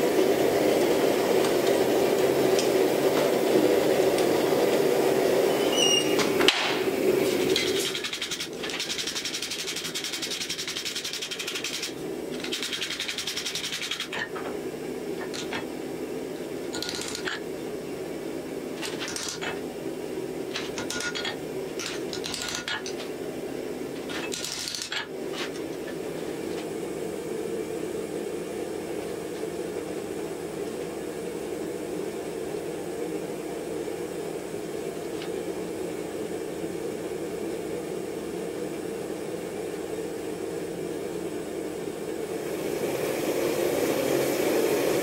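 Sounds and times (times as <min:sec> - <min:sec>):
gas forge burner hum: 0:00.0 - 0:45.0.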